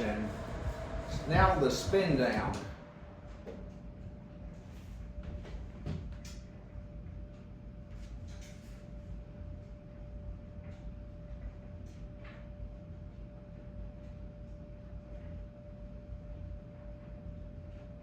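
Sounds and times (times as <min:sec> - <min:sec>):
faint hum: 0:00.0 - 0:18.0
fan motor whirring down: 0:00.0 - 0:18.0.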